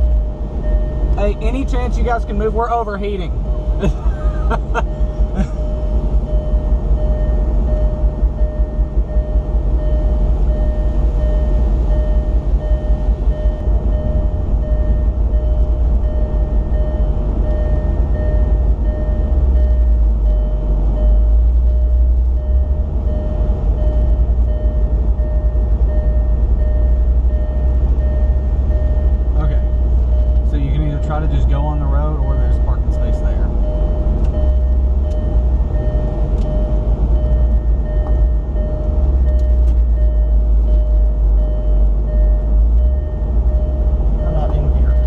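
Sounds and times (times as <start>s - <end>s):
engine and tyre rumble: 0.0s - 45.0s
steady high whine: 0.0s - 45.0s.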